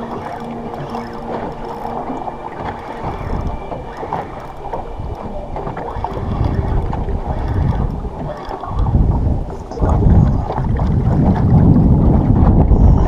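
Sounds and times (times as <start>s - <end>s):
water slapping against boat: 0.0s - 13.0s
wind buffeting microphone: 0.0s - 13.0s.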